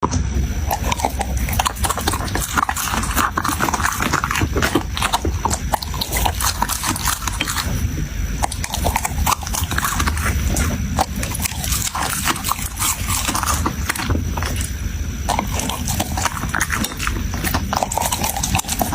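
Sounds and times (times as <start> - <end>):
dog chewing and crunching: 0.0 - 18.9.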